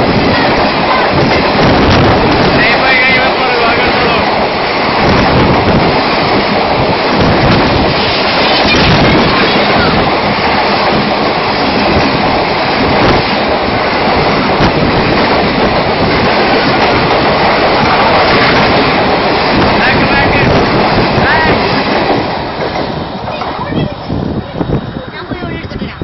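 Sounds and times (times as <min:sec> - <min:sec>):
train coaches rushing past: 0:00.0 - 0:26.0.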